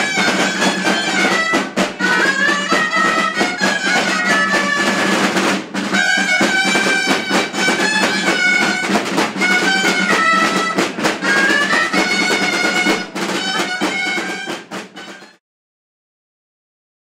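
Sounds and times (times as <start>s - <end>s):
drums beaten with sticks: 0.0s - 15.4s
shawm playing high melody: 0.0s - 15.4s.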